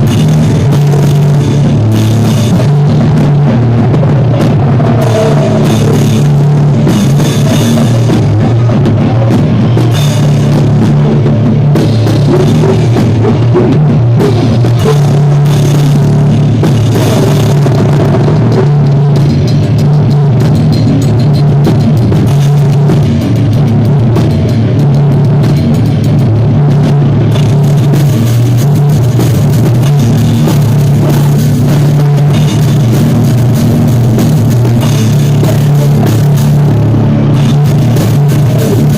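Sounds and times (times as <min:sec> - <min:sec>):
drum kit with cymbals: 0:00.0 - 0:38.9
loud low bass line: 0:00.0 - 0:38.9.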